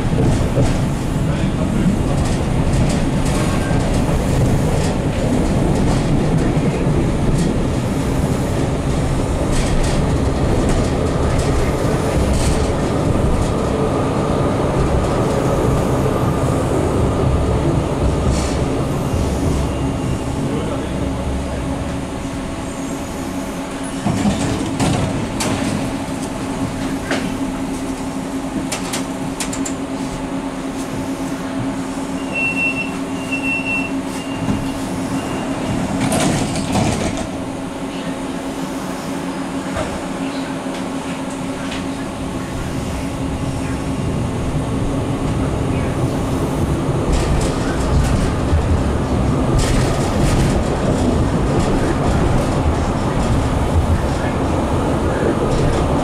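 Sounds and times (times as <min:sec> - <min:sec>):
tram electric hum: 0:00.0 - 0:56.0
wheels rumbling on rails: 0:00.0 - 0:56.0.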